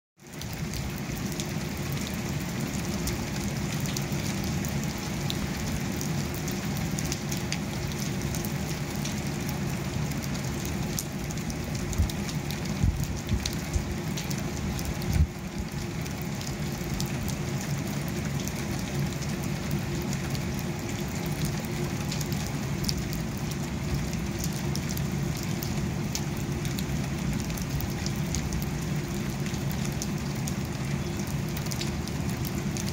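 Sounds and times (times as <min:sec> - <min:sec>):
rain on a window pane: 0:00.2 - 0:32.9.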